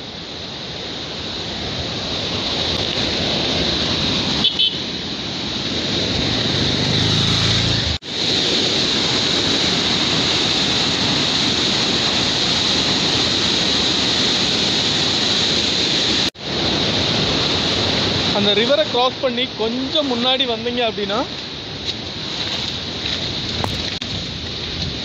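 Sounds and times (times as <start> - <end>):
waterfall rushing: 0.3 - 24.0.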